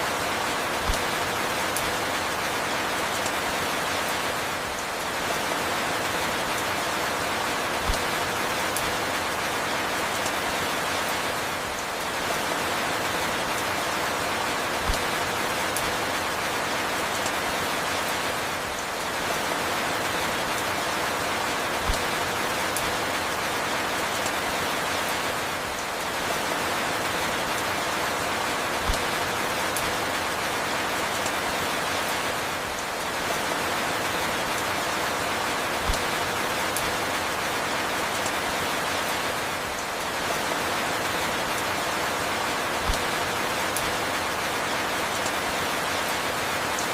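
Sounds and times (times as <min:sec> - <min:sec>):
steady falling rain: 0:00.0 - 0:46.9.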